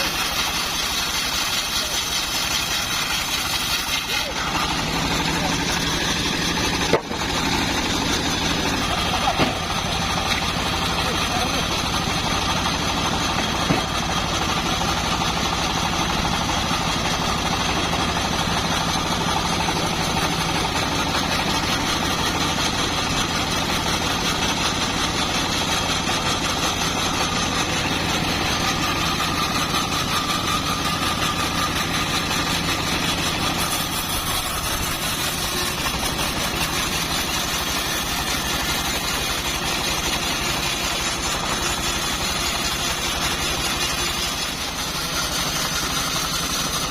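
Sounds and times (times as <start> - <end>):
bandsaw mill engine running: 0.0 - 46.9.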